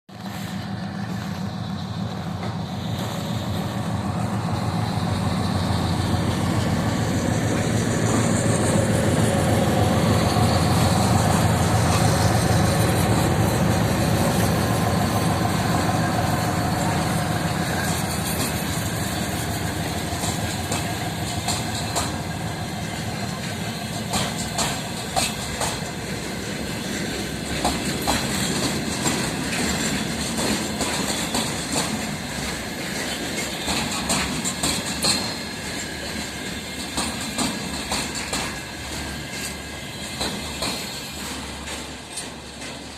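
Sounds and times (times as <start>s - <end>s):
diesel locomotive engine: 0.1s - 42.9s
wagon wheels clacking on rail joints: 5.3s - 42.9s.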